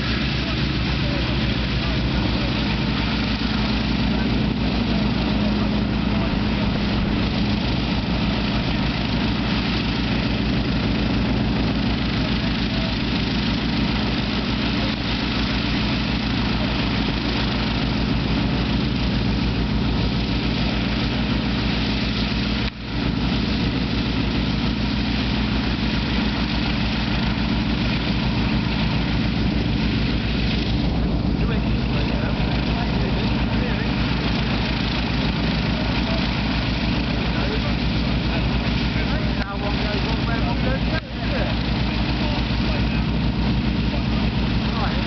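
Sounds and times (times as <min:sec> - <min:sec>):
aircraft piston engines droning: 0:00.0 - 0:45.0.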